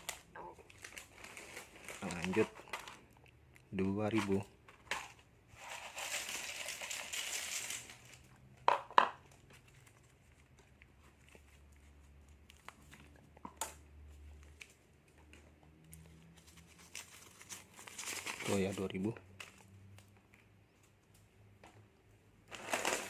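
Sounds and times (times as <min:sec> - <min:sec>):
plastic snack packets crinkling: 0:00.0 - 0:08.6, 0:09.2 - 0:21.4, 0:22.3 - 0:23.0.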